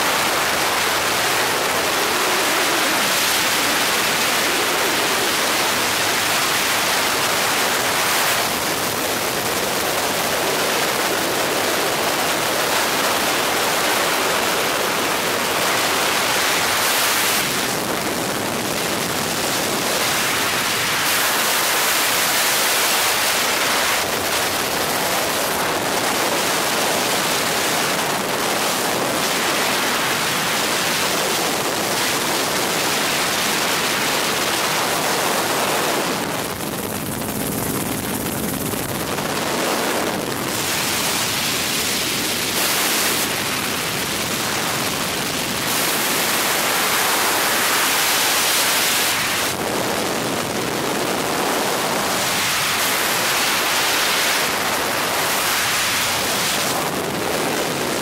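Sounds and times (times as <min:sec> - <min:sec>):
helicopter in flight: 0:00.0 - 0:58.0.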